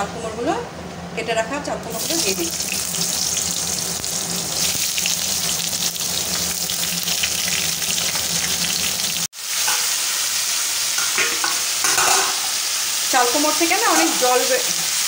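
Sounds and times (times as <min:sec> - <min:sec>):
vegetables sizzling in hot oil: 0:01.9 - 0:15.0.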